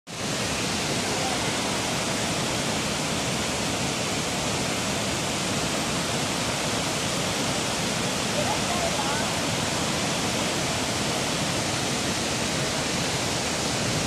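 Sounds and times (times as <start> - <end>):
waterfall rushing: 0.1 - 14.0.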